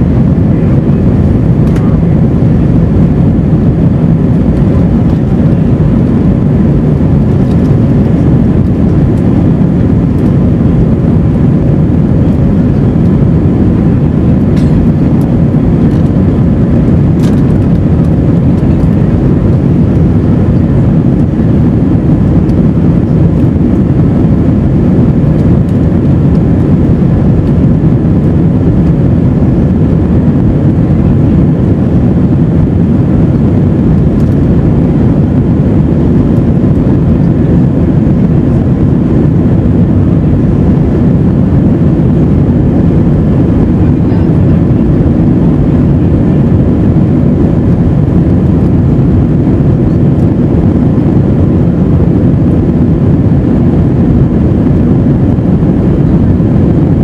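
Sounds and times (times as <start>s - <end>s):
airplane engines rumbling: 0.0s - 57.0s
faint steady hum: 0.0s - 57.0s
rushing air: 0.0s - 57.0s.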